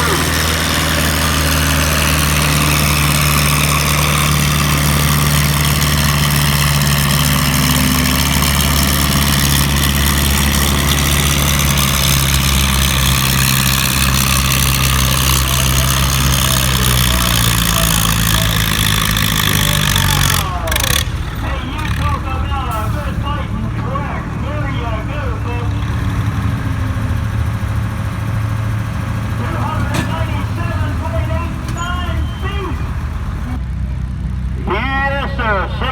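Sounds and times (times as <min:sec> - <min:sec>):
tractor engine running hard: 0:00.0 - 0:35.9.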